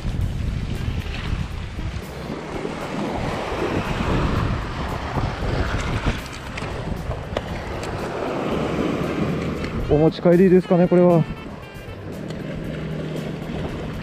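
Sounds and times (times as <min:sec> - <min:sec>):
wind buffeting microphone: 0:00.0 - 0:10.4, 0:11.1 - 0:14.0
waves washing against rocks: 0:00.0 - 0:14.0.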